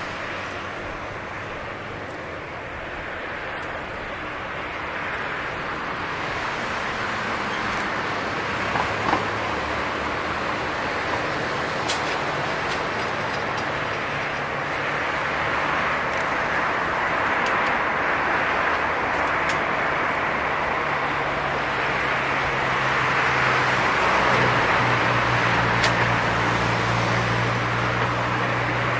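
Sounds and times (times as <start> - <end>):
jet engines rushing and whining: 0.0 - 28.9.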